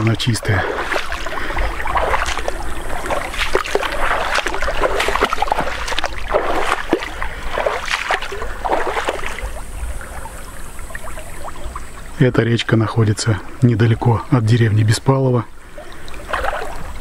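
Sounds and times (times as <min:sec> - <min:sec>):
legs wading through water: 0:00.0 - 0:17.0.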